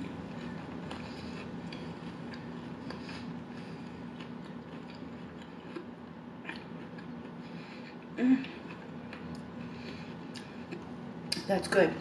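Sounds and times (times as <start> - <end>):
person chewing food: 0.0 - 11.4
faint steady hum: 0.0 - 12.0.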